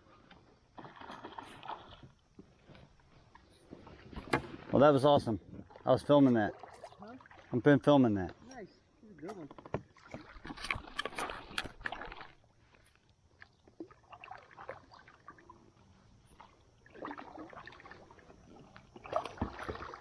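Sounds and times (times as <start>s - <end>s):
water splashing around kayak: 0.0s - 8.5s, 9.1s - 20.0s.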